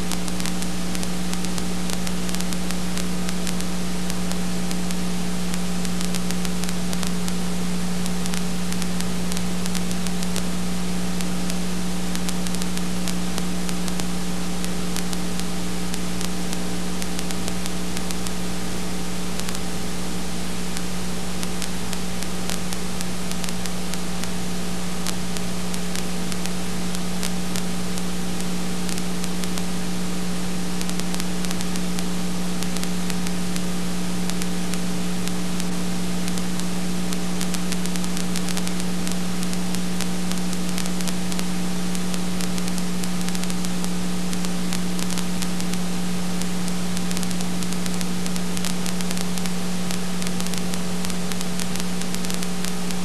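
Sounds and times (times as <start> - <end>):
faint crackles: 0.0 - 53.0
steady hiss: 0.0 - 53.0.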